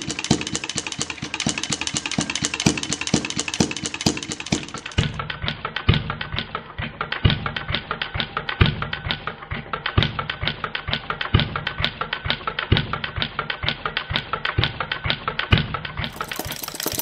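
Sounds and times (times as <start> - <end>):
model gas engine thumping: 0.0 - 17.0
rapid mechanical ticking: 0.0 - 17.0.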